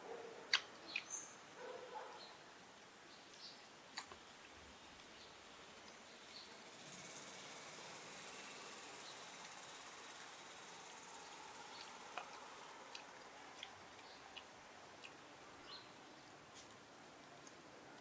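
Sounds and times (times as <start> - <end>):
steady high hiss: 0.0 - 1.6, 2.2 - 18.0.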